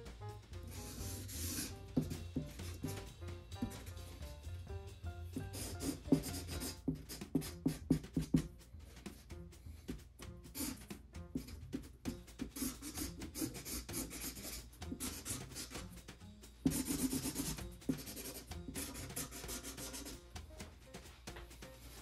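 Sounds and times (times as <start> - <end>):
marker scratching on cardboard: 0.6 - 4.6, 5.4 - 20.7.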